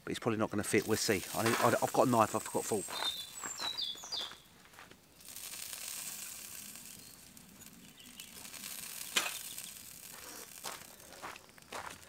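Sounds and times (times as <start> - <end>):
sausages sizzling on a barbecue: 0.0 - 12.0.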